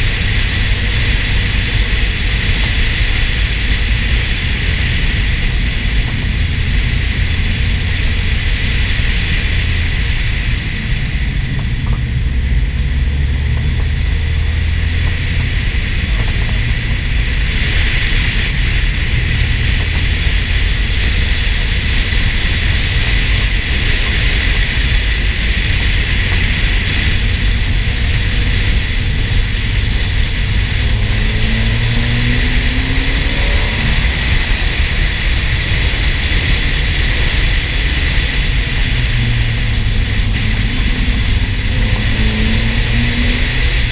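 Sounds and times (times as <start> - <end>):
car engine running: 0.0 - 43.9
heavy wind rush: 0.0 - 43.9.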